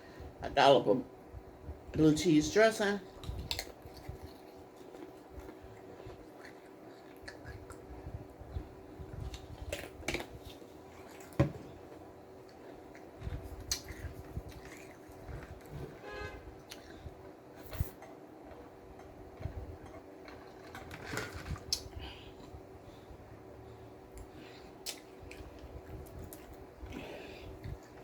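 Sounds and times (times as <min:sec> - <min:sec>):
faint steady hum: 0:00.0 - 0:28.0
chewing with crunches: 0:03.0 - 0:15.9, 0:16.5 - 0:28.0.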